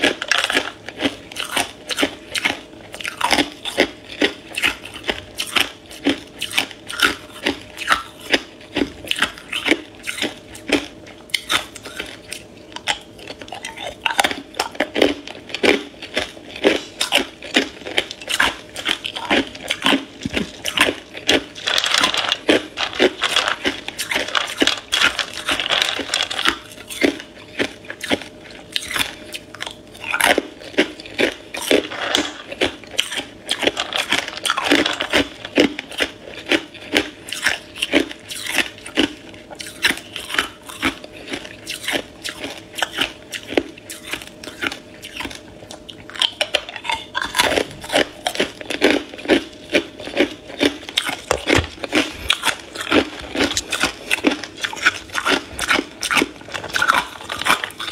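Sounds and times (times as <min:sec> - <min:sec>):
ice cubes crunching in teeth: 0:00.0 - 0:57.9.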